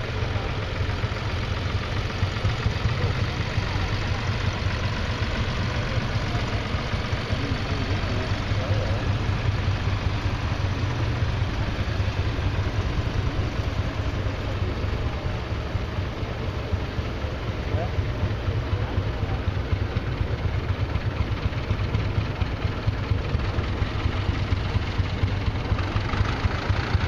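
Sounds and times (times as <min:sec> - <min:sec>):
tractor engine driving past: 0:00.0 - 0:27.0.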